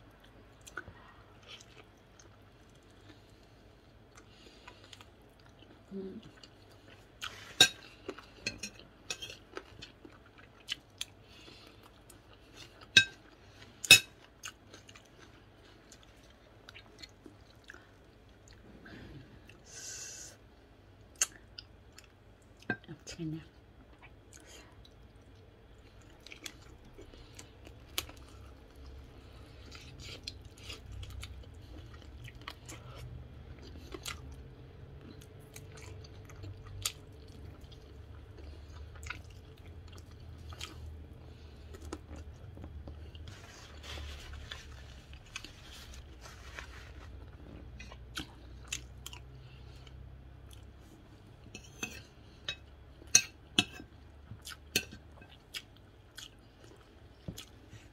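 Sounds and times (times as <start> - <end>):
person chewing and crunching: 0.1 - 18.7, 23.9 - 57.9.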